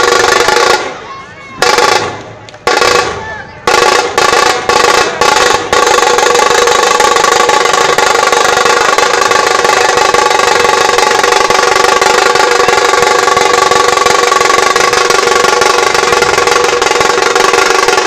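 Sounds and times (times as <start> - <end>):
drum ensemble playing: 0.0 - 18.0.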